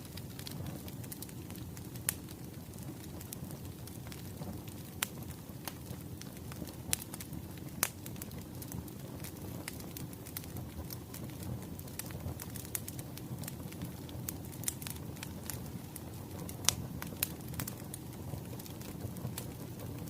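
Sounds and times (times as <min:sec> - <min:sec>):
wood fire crackling: 0:00.0 - 0:20.0
sharp pops of burning logs: 0:00.1 - 0:20.0.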